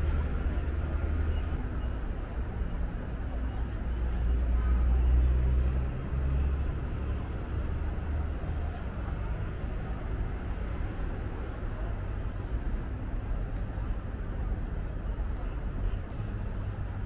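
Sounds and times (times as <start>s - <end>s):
background traffic: 0.0s - 17.0s
people in street: 0.0s - 17.0s
vehicle engine rumble: 0.0s - 17.0s.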